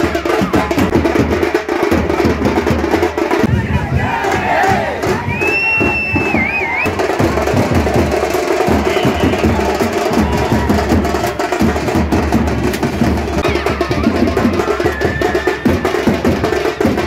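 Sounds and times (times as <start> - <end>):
crowd noise: 0.0 - 17.0
hand-beaten drums and percussion: 0.0 - 17.0.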